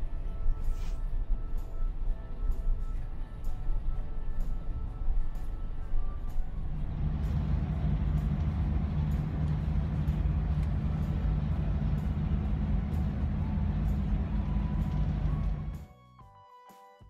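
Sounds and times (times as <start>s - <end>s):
bus engine drone: 0.0s - 15.8s.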